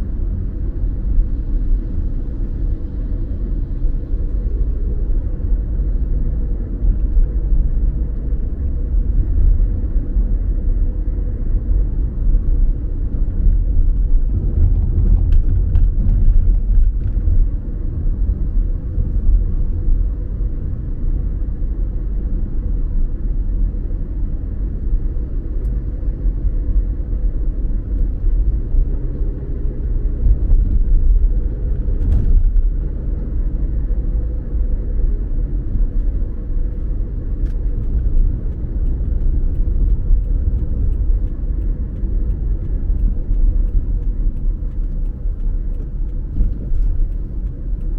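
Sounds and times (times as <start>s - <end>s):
car driving rumble: 0.0s - 47.9s.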